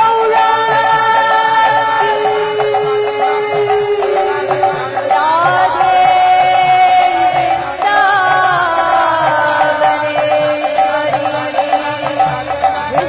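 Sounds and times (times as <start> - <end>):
woman singing long notes: 0.0 - 12.4
steady drum rhythm: 0.0 - 13.0.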